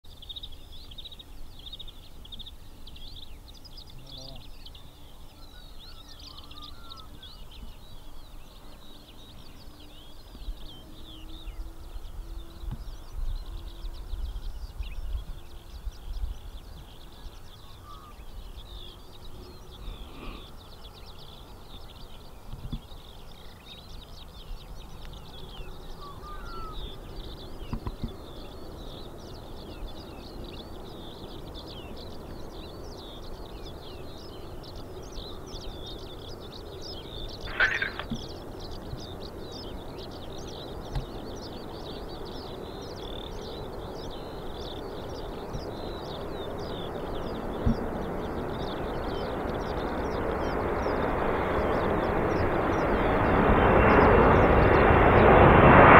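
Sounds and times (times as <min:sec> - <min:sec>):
small birds chirping: 0:00.0 - 0:55.9
distant aircraft drone: 0:00.1 - 0:55.9
wind buffeting microphone: 0:00.3 - 0:55.9.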